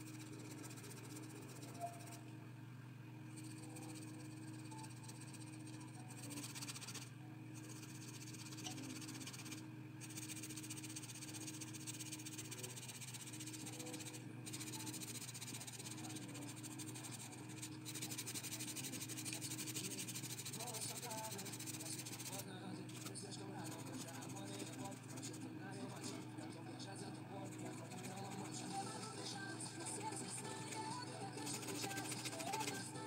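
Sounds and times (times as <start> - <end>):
pencil scratching on paper: 0.0 - 2.2, 3.3 - 26.6, 27.4 - 33.0
steady low hum: 0.0 - 33.0.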